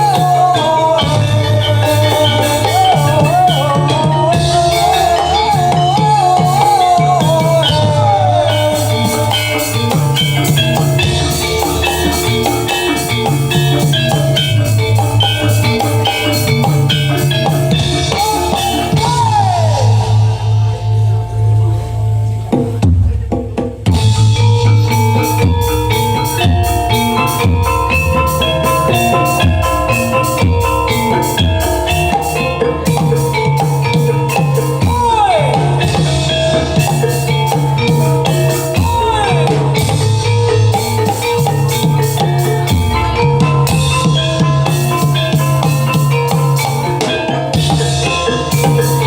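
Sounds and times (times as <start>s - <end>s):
high wavering melody: 0.0s - 23.2s, 23.9s - 49.0s
drums beating: 0.0s - 49.0s.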